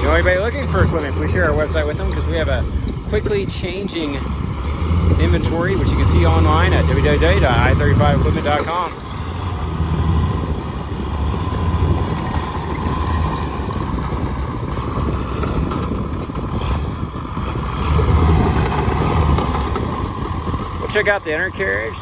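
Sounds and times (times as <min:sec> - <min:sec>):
dozer diesel engine droning: 0:00.0 - 0:22.0.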